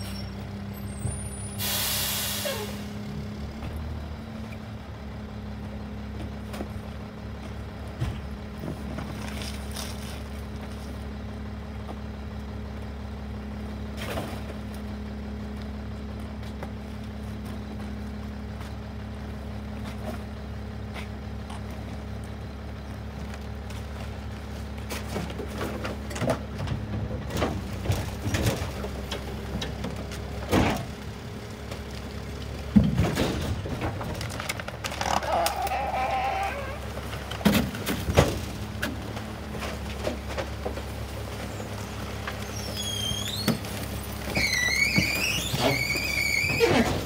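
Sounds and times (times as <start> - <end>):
garbage truck idling: 0.0 - 47.0.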